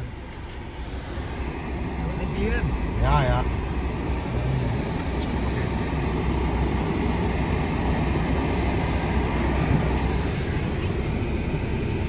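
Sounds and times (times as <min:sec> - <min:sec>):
truck engine low rumble: 0:00.0 - 0:12.0
tyres hissing on road: 0:00.0 - 0:12.0.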